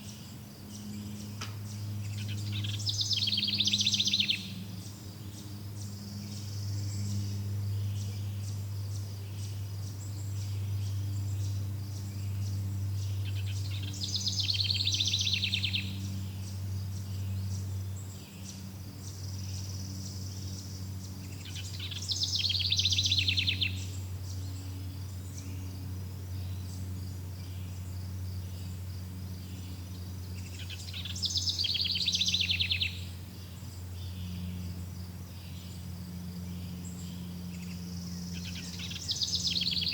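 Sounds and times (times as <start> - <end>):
insects chirring: 0.0 - 39.9
low steady drone: 0.0 - 39.9.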